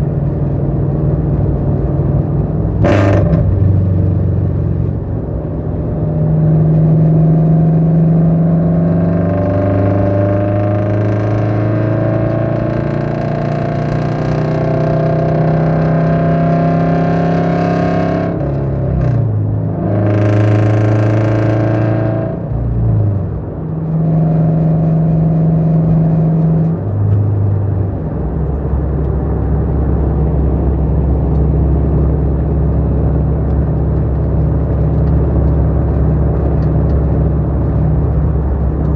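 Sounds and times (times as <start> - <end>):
loud car engine accelerating: 0.0 - 38.9.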